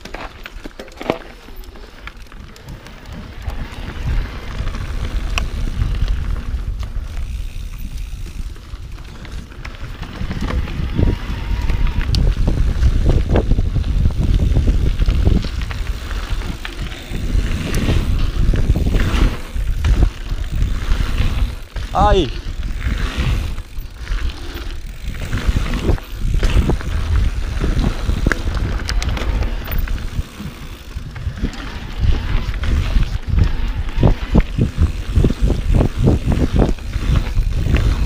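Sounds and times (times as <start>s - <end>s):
bike clicks and knocks: 0.0s - 38.0s
bike rumbling on dirt trail: 0.0s - 38.0s
wind buffeting microphone: 2.4s - 38.0s.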